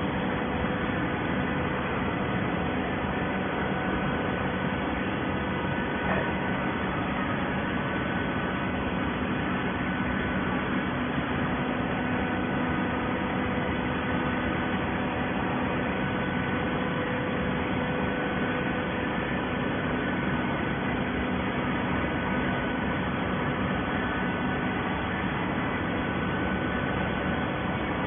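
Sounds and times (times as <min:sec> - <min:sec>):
baling machine running: 0:00.0 - 0:28.0.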